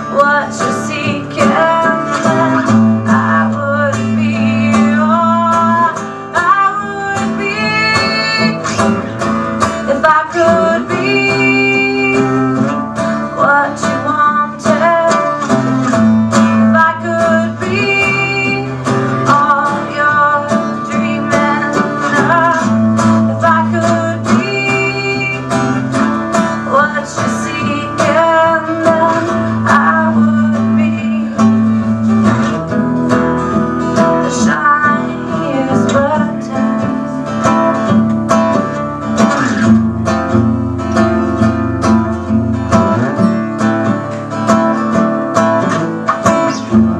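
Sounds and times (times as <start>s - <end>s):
acoustic guitar strumming: 0.0s - 46.9s.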